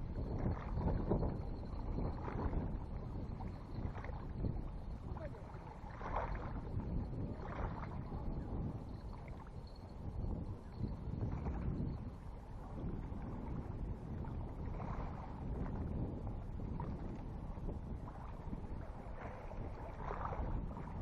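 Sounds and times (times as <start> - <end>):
gusting wind on microphone: 0.0 - 21.0.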